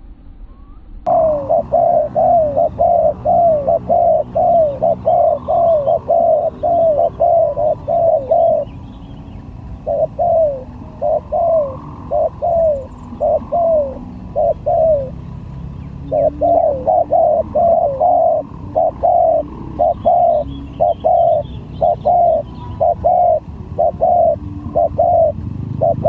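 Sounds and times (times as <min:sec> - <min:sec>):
dove cooing: 0:01.1 - 0:26.0.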